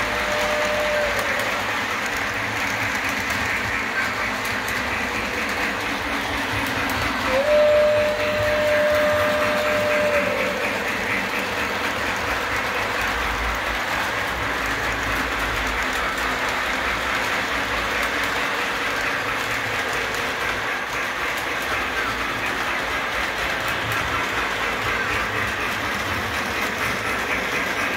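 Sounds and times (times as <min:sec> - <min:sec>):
model train wheels clattering on rails: 0:00.0 - 0:27.9.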